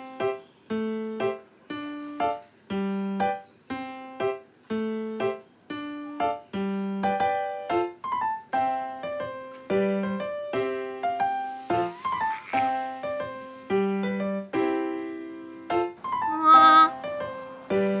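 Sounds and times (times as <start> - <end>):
gentle piano tune: 0.0 - 18.0.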